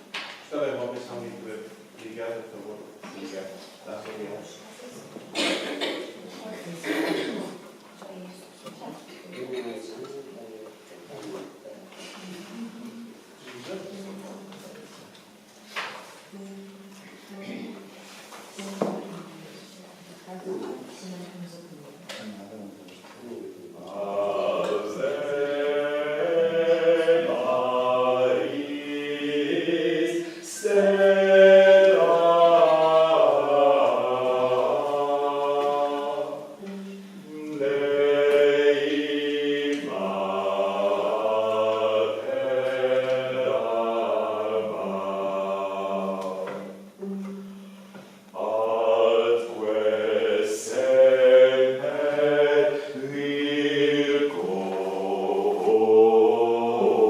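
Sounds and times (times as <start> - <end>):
voices singing early vocal music: 0.0 - 9.4, 10.0 - 57.0.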